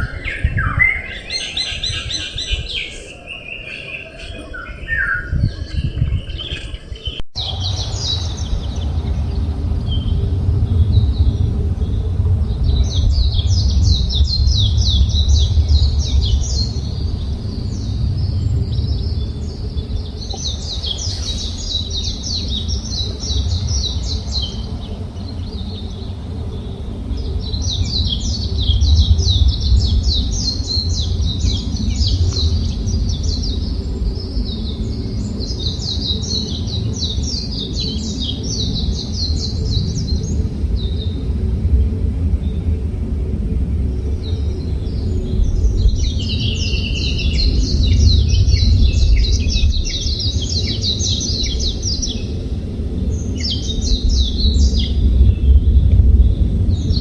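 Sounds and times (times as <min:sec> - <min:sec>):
songbirds chirping: 0:00.0 - 0:57.0
low rumble: 0:07.4 - 0:57.0.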